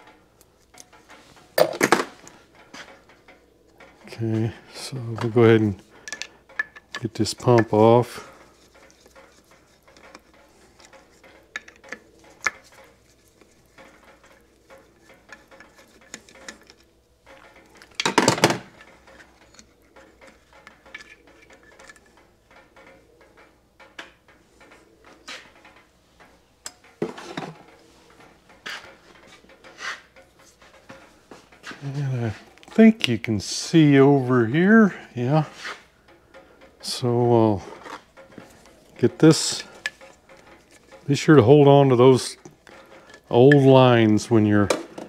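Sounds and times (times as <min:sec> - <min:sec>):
tools clinking on engine casing: 0:00.5 - 0:33.2, 0:35.6 - 0:45.0.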